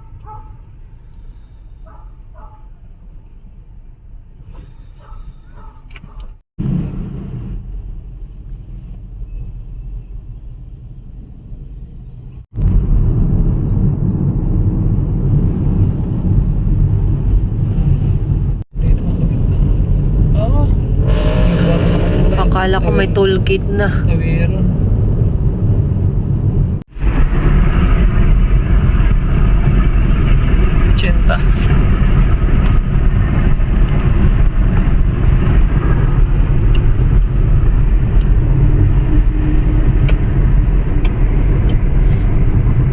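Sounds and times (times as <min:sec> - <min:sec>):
car driving rumble: 0:00.0 - 0:42.9
road noise: 0:00.0 - 0:42.9.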